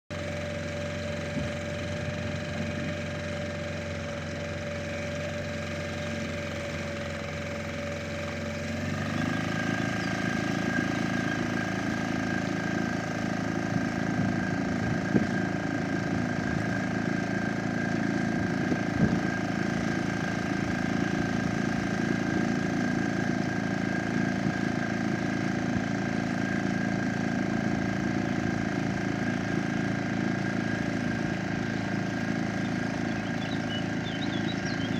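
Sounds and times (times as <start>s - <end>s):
outboard motor running: 0.1s - 34.9s.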